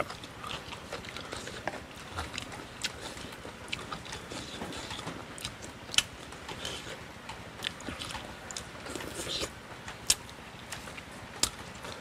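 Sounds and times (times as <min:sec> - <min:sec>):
man chewing crunchy food: 0:00.0 - 0:12.0.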